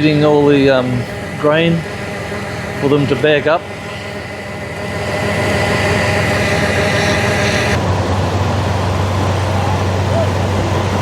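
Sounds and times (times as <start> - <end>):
combine harvester running: 0.0 - 11.0
steady low hum: 0.0 - 11.0.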